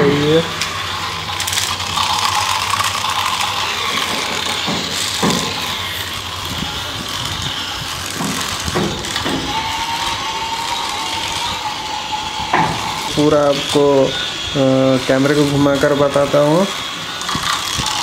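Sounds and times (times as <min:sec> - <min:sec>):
thin motor whine: 0:00.0 - 0:18.0
toy train motor whirring: 0:00.0 - 0:18.0.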